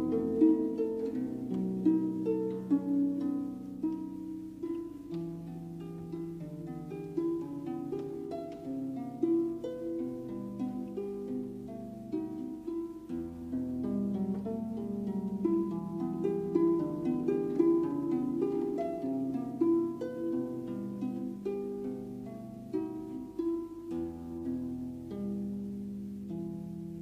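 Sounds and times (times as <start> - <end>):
gentle harp-like instrumental music: 0.0 - 27.0.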